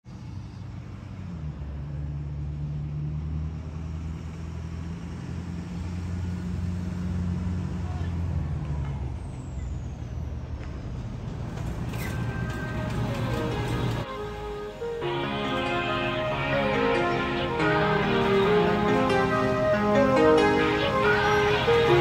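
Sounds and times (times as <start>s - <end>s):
pickup truck engine drone: 0.1s - 22.0s.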